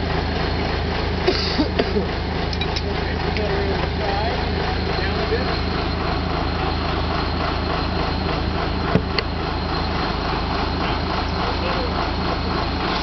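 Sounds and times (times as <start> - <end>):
drill rig engine running: 0.0 - 13.0.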